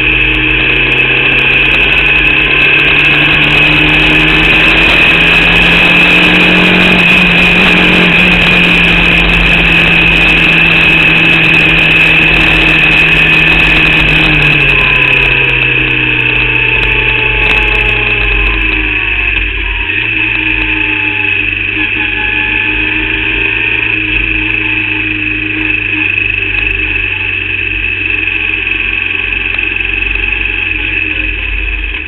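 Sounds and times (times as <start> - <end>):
onboard wind noise: 0.0 - 32.0
race car engine misfiring: 0.0 - 32.0.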